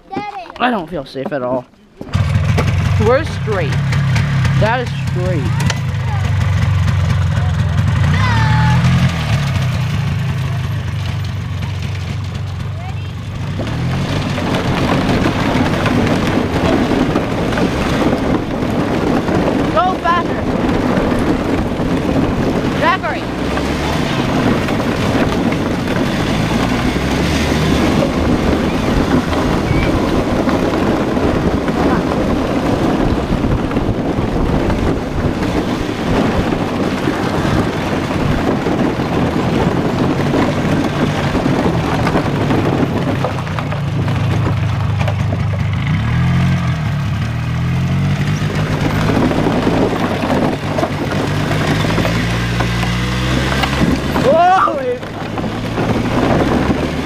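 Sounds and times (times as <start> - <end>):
wind and road noise: 0.0 - 57.0
vehicle engine running: 2.0 - 57.0.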